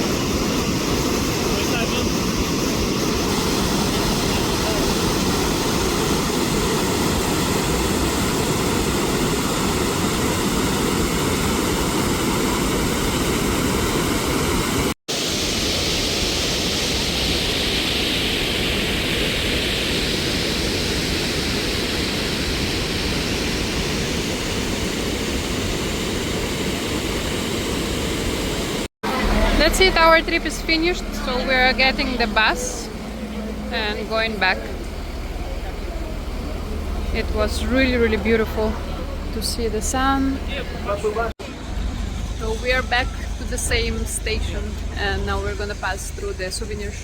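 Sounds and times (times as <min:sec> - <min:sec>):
waterfall rushing: 0:00.0 - 0:45.4.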